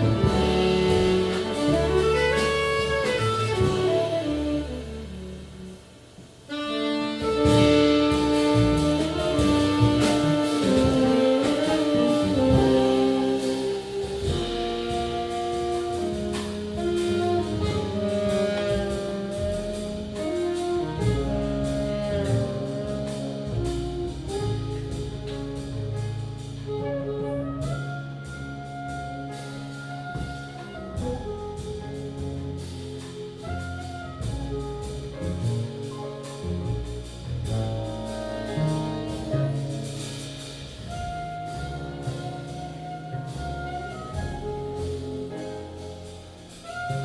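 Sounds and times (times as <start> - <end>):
held saxophone lines: 0.0 - 5.8, 6.5 - 39.7
jazz band playing: 0.0 - 47.0.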